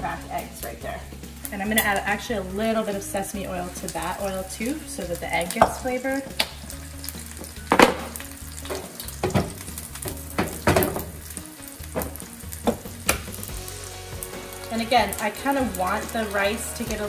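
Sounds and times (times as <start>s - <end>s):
rice sizzling in skillet: 0.0s - 17.0s.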